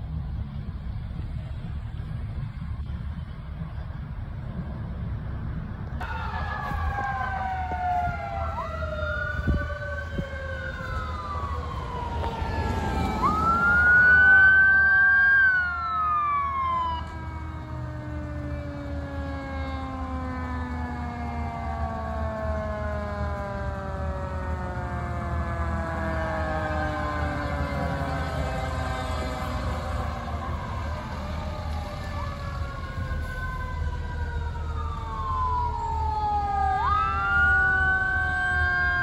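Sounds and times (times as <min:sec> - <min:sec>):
engine and road rumble: 0:00.0 - 0:39.0
electronic siren: 0:06.0 - 0:39.0
mechanical siren winding down: 0:06.0 - 0:39.0.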